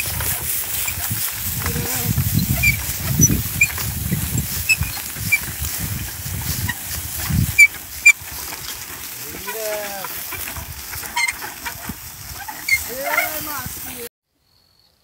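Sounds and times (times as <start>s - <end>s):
hooves and ploughs thudding in soil: 0.0s - 14.1s.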